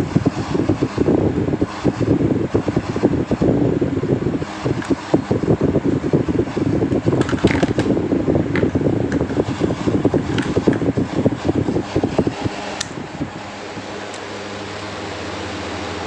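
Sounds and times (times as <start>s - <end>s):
box fan humming: 0.0s - 16.0s
fan clattering rattle: 0.0s - 16.0s.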